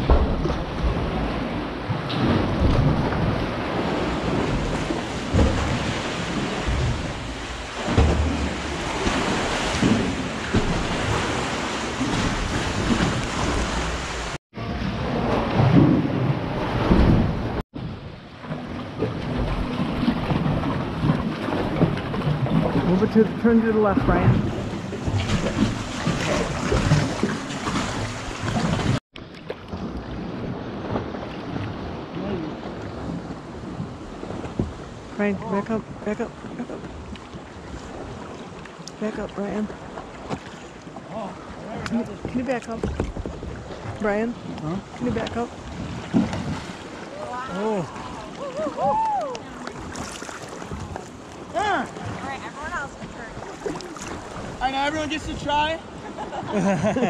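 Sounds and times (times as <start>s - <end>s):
water slapping against rock: 0.0s - 14.4s, 18.4s - 32.0s, 33.2s - 55.8s
small waves: 0.0s - 57.0s
wind: 0.0s - 57.0s.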